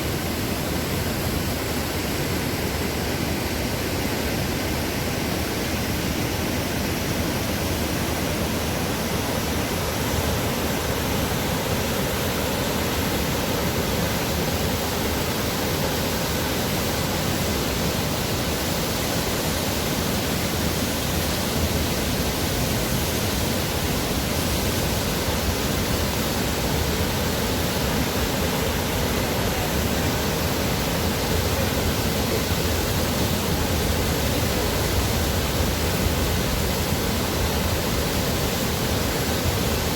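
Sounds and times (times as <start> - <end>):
waterfall pouring water: 0.0 - 39.9.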